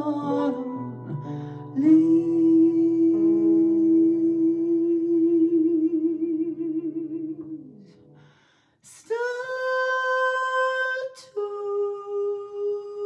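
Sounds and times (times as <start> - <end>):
woman singing jazz: 0.0 - 8.1, 8.8 - 13.0.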